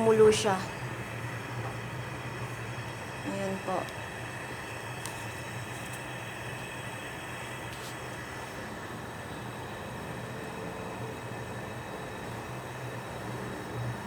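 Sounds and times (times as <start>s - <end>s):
stove burner rushing hum: 0.0s - 14.0s.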